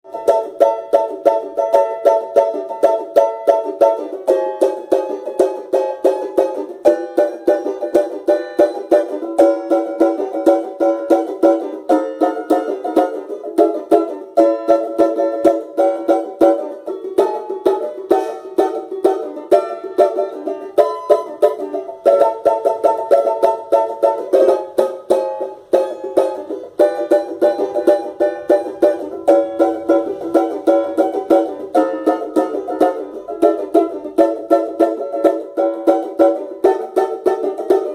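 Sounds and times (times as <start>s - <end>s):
banjo playing plucked notes: 0.0s - 37.9s.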